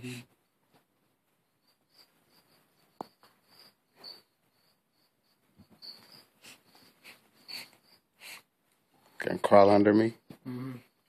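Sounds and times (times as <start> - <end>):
cricket chirping: 1.3 - 11.0.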